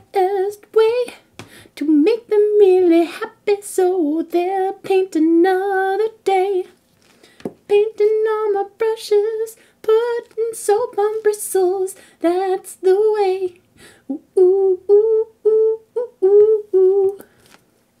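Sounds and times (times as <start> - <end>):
woman singing wordless tune: 0.0 - 6.8, 7.6 - 17.4.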